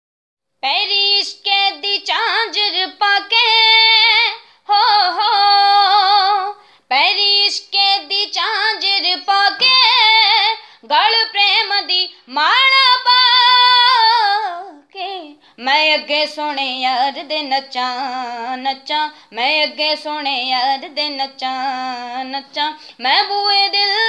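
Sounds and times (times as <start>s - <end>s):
girl singing unaccompanied: 0.6s - 24.0s.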